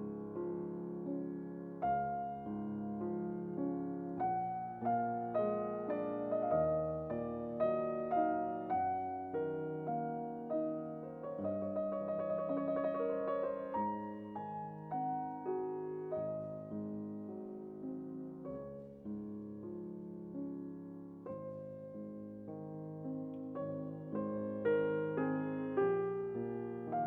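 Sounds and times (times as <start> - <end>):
soft piano music: 0.0 - 27.0.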